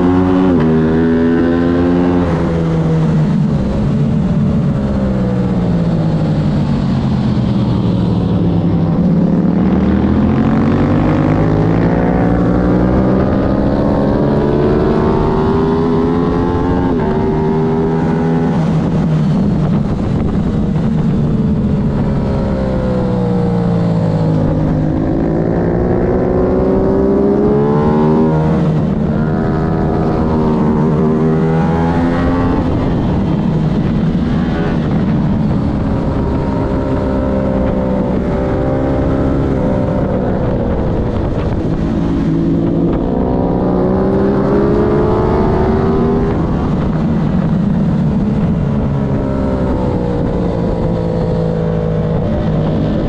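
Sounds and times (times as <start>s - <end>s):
racing motorcycle engine: 0.0s - 53.0s.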